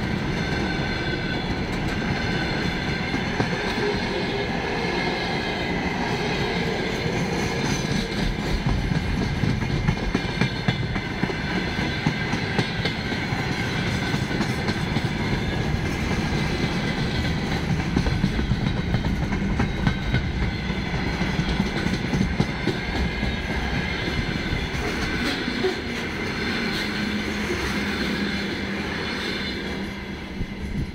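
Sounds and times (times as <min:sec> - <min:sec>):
clickety-clack over rail joints: 0:00.0 - 0:30.9
steel wheels rumbling on rail: 0:00.0 - 0:30.9.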